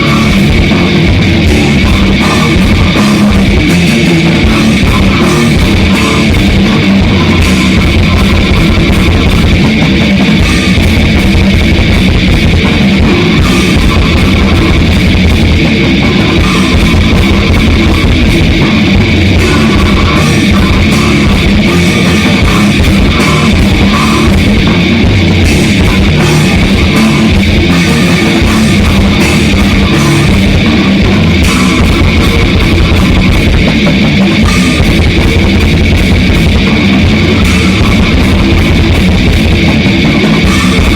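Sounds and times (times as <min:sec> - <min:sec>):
bass guitar: 0:00.0 - 0:40.9
distorted electric guitars: 0:00.0 - 0:40.9
drum kit: 0:00.0 - 0:40.9.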